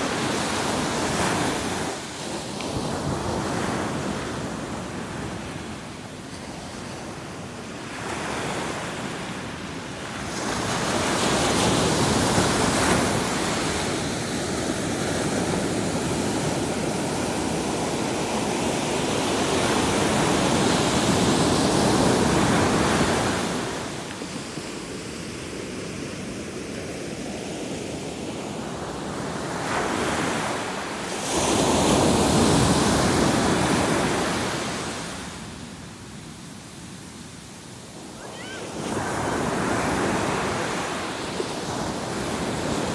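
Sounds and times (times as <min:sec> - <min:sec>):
surf washing up a beach: 0:00.0 - 0:42.9.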